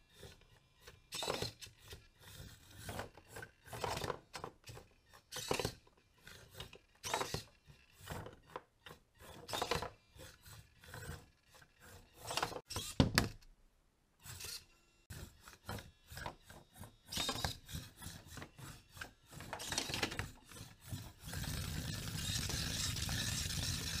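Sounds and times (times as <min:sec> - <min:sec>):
small drive motors whirring: 0:00.0 - 0:13.0, 0:14.2 - 0:24.0.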